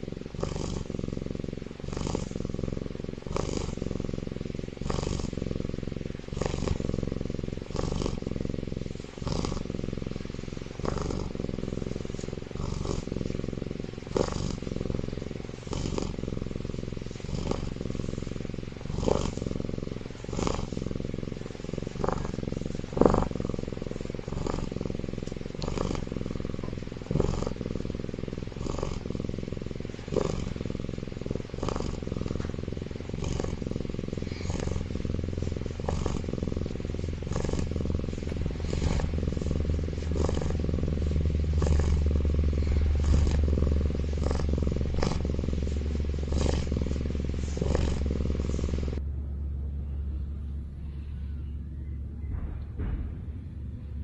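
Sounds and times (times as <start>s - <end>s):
tiger cub snoring: 0.0s - 49.0s
steady low hum: 0.0s - 54.0s.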